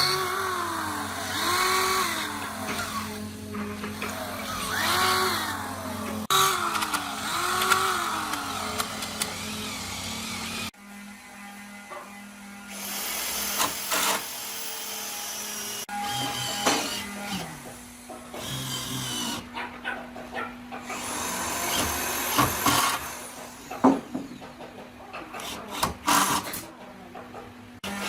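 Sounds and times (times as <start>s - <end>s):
woodworking power tools running: 0.0s - 19.5s, 20.8s - 26.7s.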